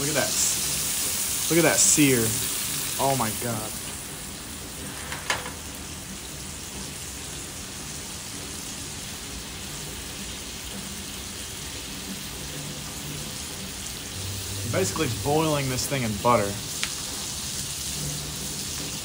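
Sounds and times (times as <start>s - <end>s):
steak sizzling in a pan: 0.0s - 19.0s.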